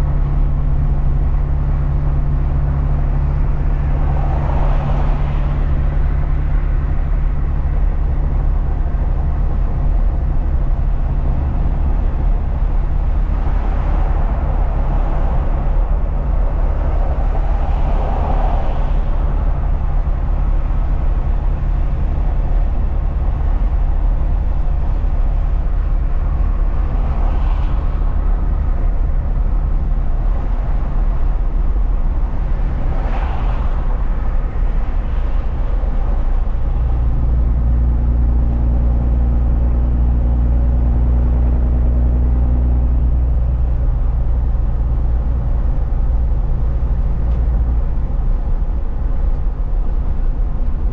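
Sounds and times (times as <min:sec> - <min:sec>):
truck engine and road noise: 0:00.0 - 0:50.9.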